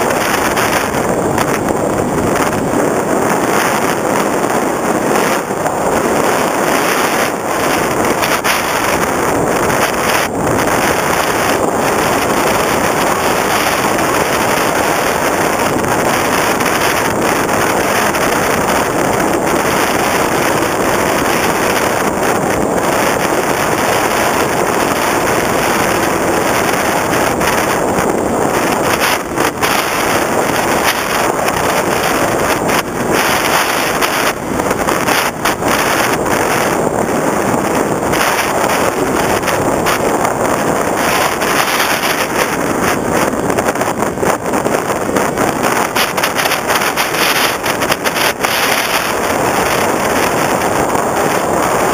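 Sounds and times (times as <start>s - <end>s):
wind rushing over camera: 0.0s - 51.9s.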